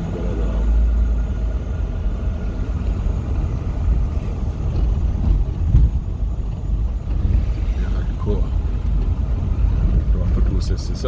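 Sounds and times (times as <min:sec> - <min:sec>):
vehicle rumble and road noise: 0:00.0 - 0:11.0.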